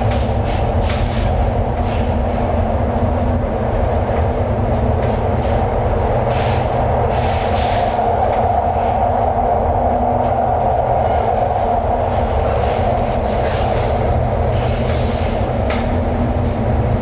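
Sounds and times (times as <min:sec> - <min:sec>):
constant drone: 0:00.0 - 0:17.0
train wheels rumbling on rails: 0:00.0 - 0:17.0.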